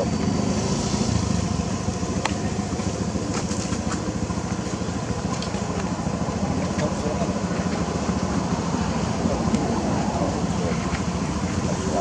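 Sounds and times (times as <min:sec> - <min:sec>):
engine running with pulsing rumble: 0:00.0 - 0:12.0.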